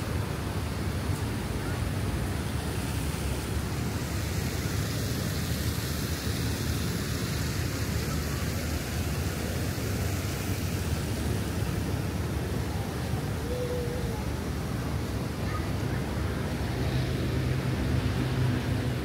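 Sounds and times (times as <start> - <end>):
park ambience rushing noise: 0.0 - 19.0.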